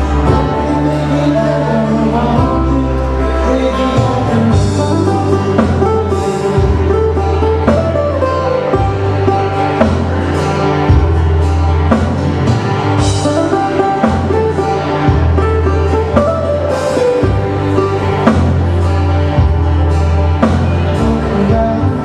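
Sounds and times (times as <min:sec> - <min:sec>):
band playing instrumental music: 0:00.0 - 0:22.0
deep bass notes: 0:00.0 - 0:22.0
steady beat: 0:00.0 - 0:22.0.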